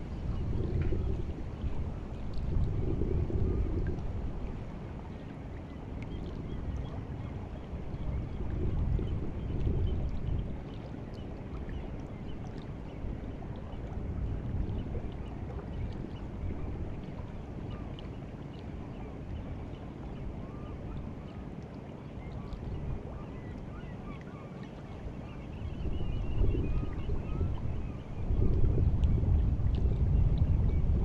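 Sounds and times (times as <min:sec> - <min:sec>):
seawater lapping on shore: 0:00.0 - 0:31.0
small water trickles: 0:00.0 - 0:31.0
wind rumble on microphone: 0:00.0 - 0:31.0.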